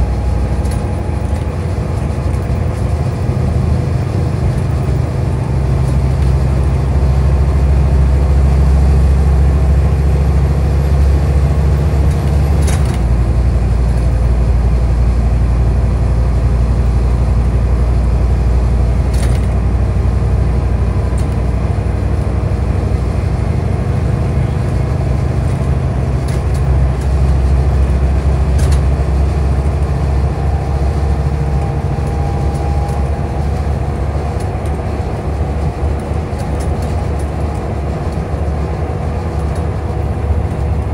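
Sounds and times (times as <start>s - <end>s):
bus engine and road drone: 0.0s - 40.9s.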